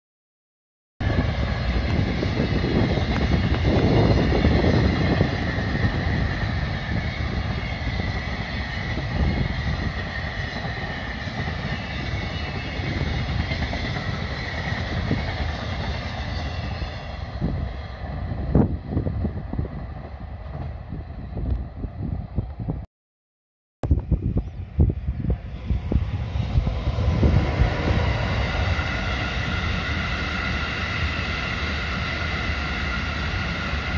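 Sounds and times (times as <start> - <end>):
freight train rumbling on rails: 1.0 - 22.9, 23.9 - 33.9.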